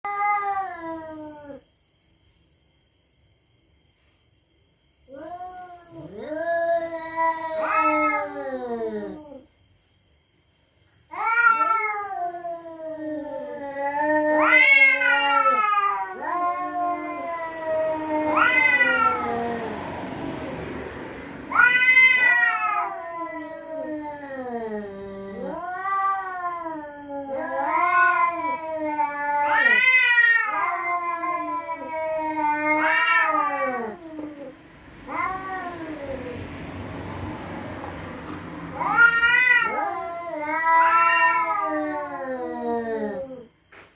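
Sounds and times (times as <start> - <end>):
cats yowling: 0.0 - 1.6, 5.1 - 9.5, 11.1 - 36.7, 37.7 - 43.5.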